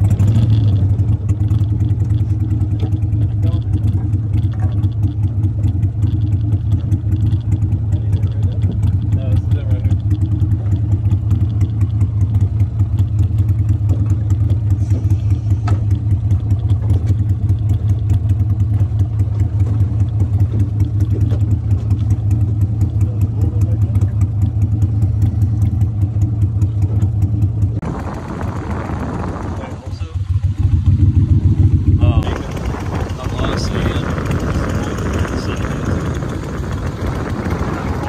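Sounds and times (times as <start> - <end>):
boat motor idling: 0.0 - 38.0.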